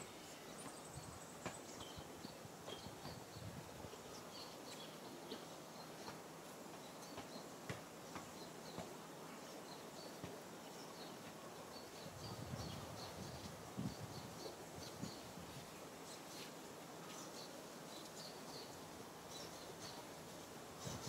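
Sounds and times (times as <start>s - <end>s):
small birds chirping: 0.0s - 21.0s
steady hiss: 0.0s - 21.0s.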